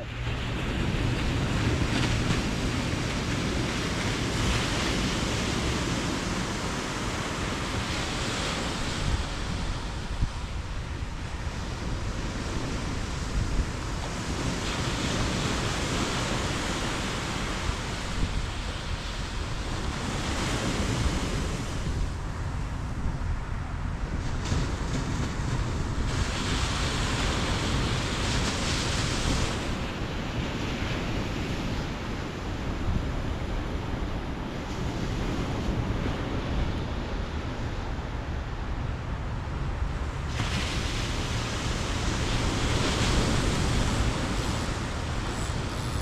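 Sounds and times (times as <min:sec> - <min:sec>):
ocean surf washing ashore: 0:00.0 - 0:46.0
wind rumbling on microphone: 0:00.0 - 0:46.0.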